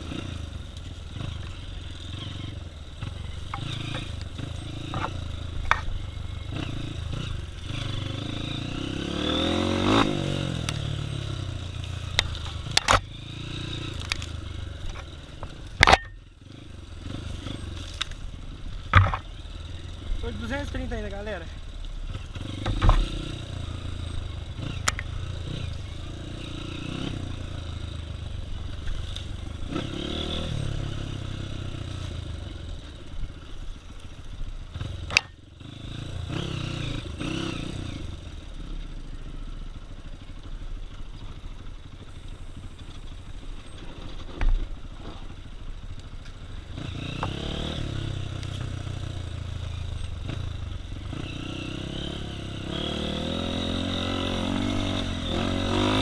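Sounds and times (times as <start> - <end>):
dirt bike engine revving: 0.0 - 34.0, 34.6 - 38.7, 46.5 - 56.0.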